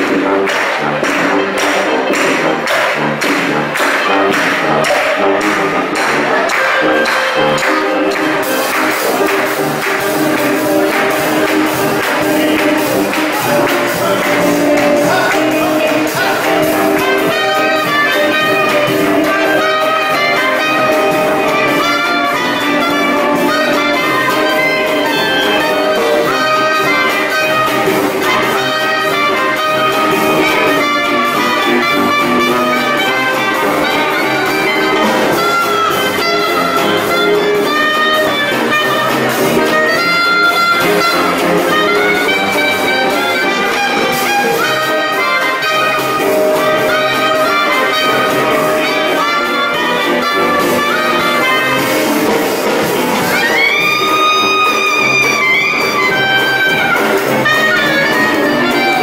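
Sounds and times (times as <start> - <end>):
jazz band playing: 0.0 - 59.0
trumpet: 0.0 - 59.0.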